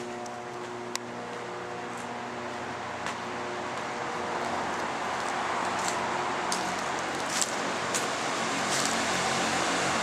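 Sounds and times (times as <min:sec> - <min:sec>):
footsteps crunching on dry leaves: 0:00.0 - 0:09.3
machinery humming and hissing: 0:00.0 - 0:10.0.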